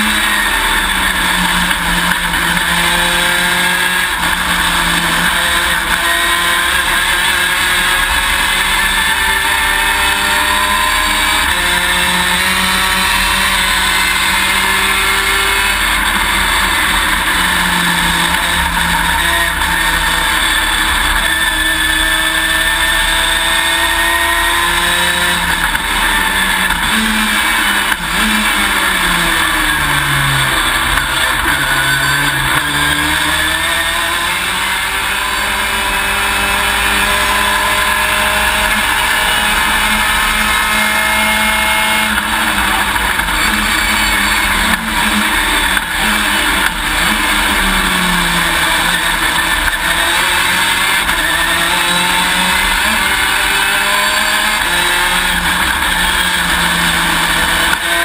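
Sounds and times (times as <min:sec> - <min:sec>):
race car engine shifting gears: 0:00.0 - 0:58.0
wind and road noise: 0:00.0 - 0:58.0.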